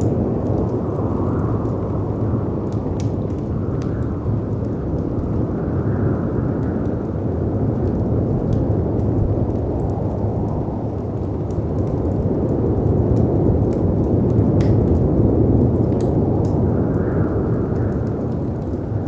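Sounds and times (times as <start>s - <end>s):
storm wind: 0.0s - 19.0s
wood fire crackling: 0.0s - 19.0s.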